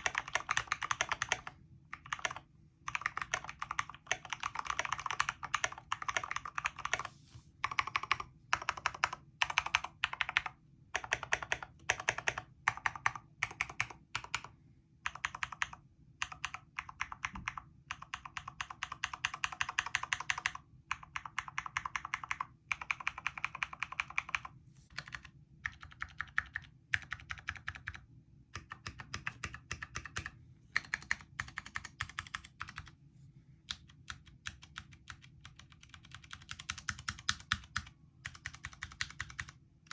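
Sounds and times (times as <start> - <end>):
mechanical keyboard typing: 0.0 - 33.0, 33.7 - 39.9.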